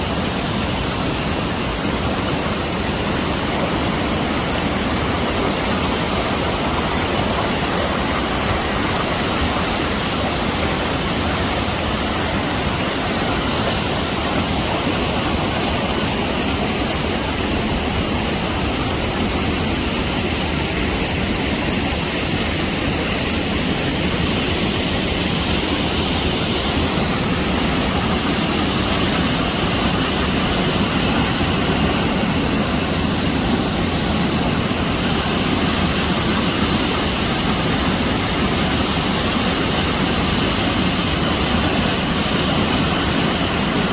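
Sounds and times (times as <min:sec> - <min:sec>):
rushing water roar: 0:00.0 - 0:43.9.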